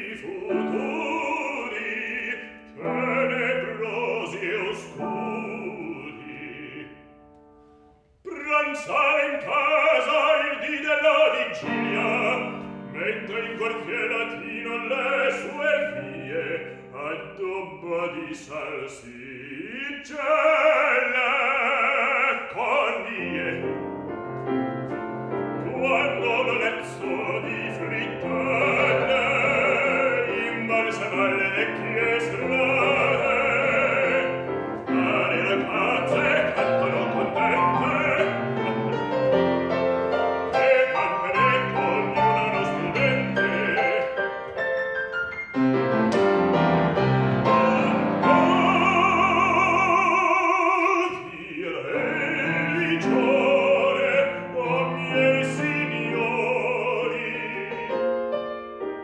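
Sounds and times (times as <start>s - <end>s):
operatic baritone singing: 0.0s - 7.3s, 8.2s - 44.9s, 46.0s - 58.2s
grand piano accompaniment: 0.0s - 59.0s.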